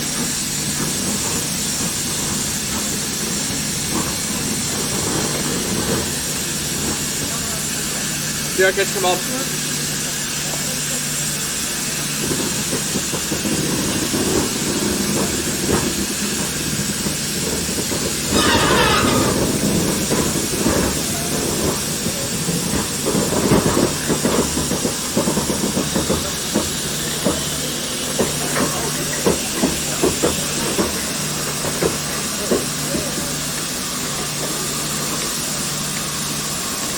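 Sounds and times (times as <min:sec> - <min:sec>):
steam hissing: 0:00.0 - 0:36.9.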